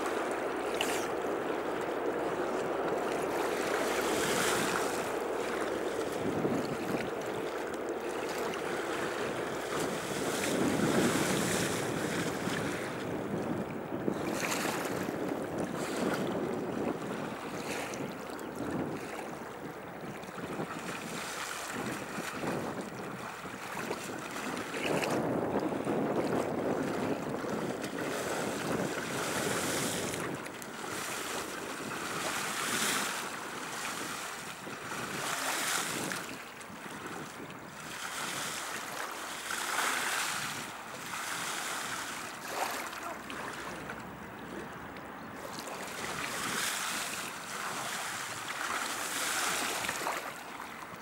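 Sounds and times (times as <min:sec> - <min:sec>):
river water washing against bank: 0:00.0 - 0:51.0
wind on microphone: 0:00.0 - 0:51.0.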